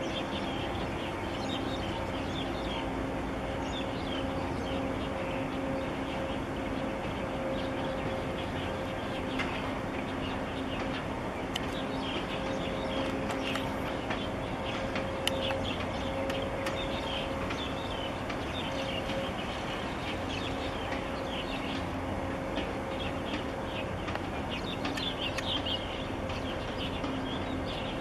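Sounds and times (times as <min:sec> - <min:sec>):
ship low drone and hum: 0:00.0 - 0:28.0
small birds chirping: 0:00.0 - 0:28.0.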